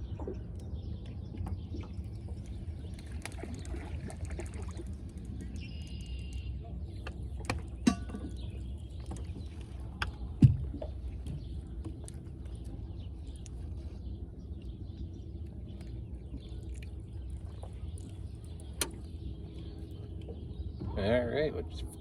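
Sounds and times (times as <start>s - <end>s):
low rumble of wind and water: 0.0s - 22.0s.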